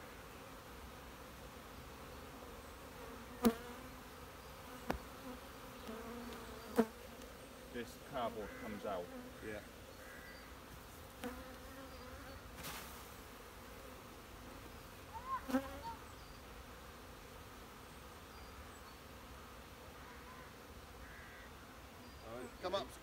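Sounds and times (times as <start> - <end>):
bee swarm buzzing: 0.0 - 23.0.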